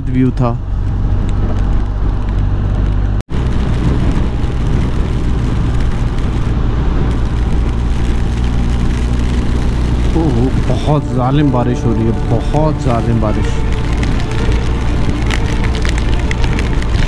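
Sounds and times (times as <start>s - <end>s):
motorcycle engine cruising: 0.0s - 17.0s
wind rush: 0.0s - 17.0s
heavy rain and tyre spray: 0.1s - 17.0s.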